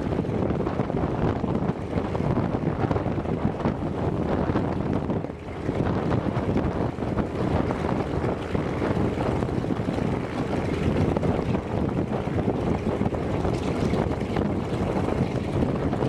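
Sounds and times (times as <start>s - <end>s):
radial aircraft engine running: 0.0s - 16.0s
wind buffeting microphone: 0.0s - 16.0s.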